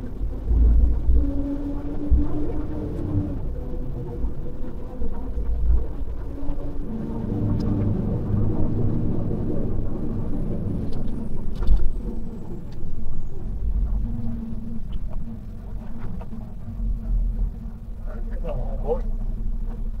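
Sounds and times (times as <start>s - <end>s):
road rumble: 0.0s - 20.0s
truck engine drone: 0.0s - 20.0s.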